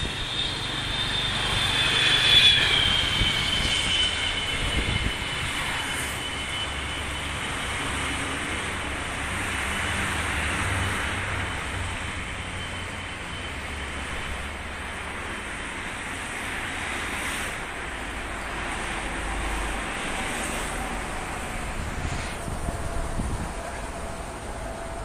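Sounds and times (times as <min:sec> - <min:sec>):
passing vehicles rushing: 0:00.0 - 0:25.0.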